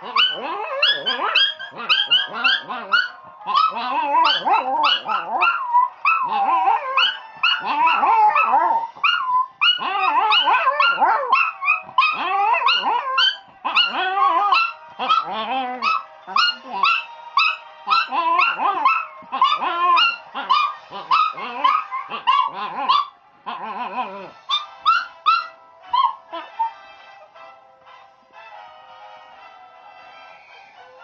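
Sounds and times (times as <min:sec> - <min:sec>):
dogs howling: 0:00.0 - 0:26.7.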